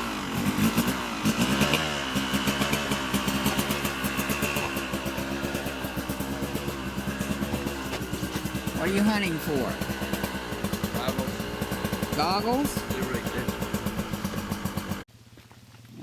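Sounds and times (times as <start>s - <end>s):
small engines idling and revving: 0.0s - 16.0s.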